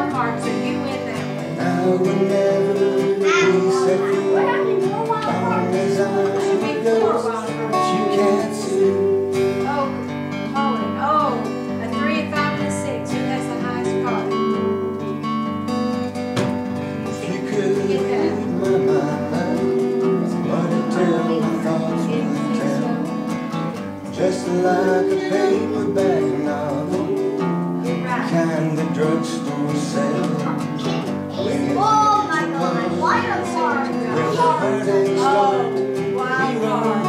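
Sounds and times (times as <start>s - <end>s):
acoustic guitar strumming: 0.0s - 37.0s
man singing: 1.2s - 11.0s, 13.8s - 15.3s, 16.9s - 37.0s.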